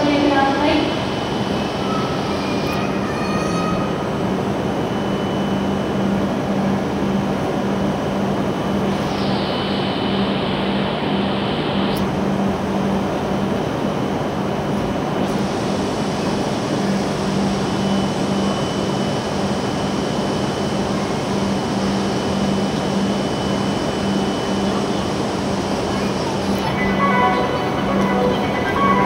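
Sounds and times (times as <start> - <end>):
train air-conditioning running: 0.0 - 29.0.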